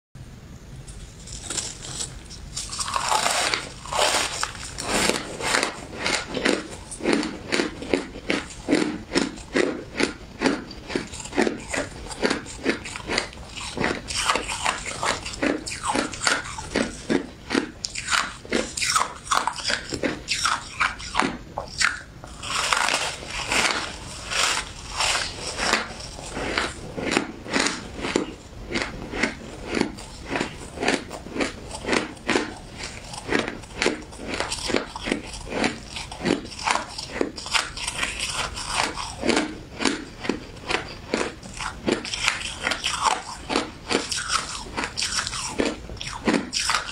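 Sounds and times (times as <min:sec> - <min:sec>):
person chewing shaved ice: 0:00.9 - 0:46.9.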